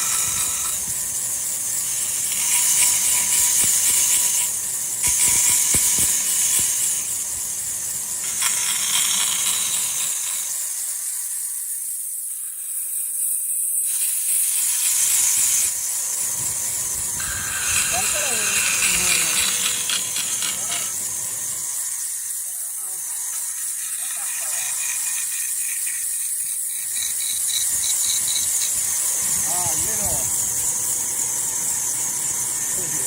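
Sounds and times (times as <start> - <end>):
woodworking machinery hissing: 0.0 - 33.0.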